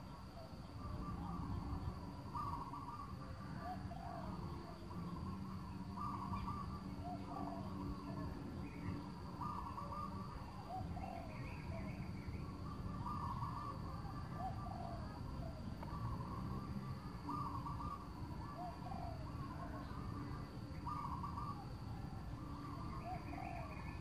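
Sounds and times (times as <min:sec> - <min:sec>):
wild birds calling: 0:00.0 - 0:24.0.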